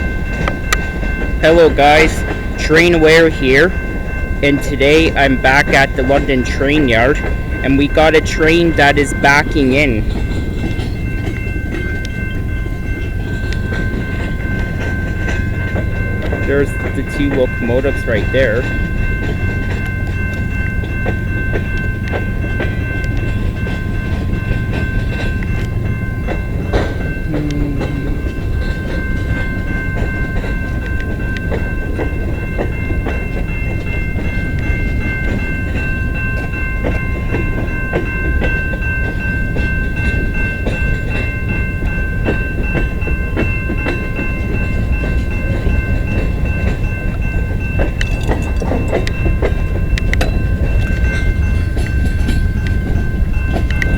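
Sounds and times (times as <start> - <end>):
freight train low rumble: 0.0 - 53.9.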